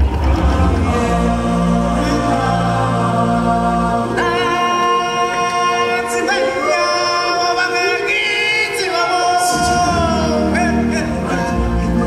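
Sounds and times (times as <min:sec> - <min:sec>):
performers singing held notes: 0:00.0 - 0:12.0
show music: 0:00.0 - 0:12.0.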